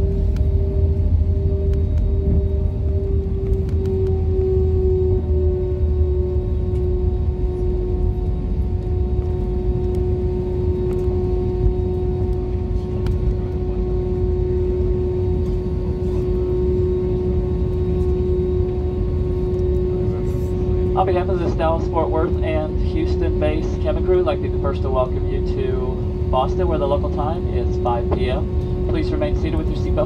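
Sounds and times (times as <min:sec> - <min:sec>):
jet engines whining: 0:00.0 - 0:30.0
low rumble of plane rolling: 0:00.0 - 0:30.0.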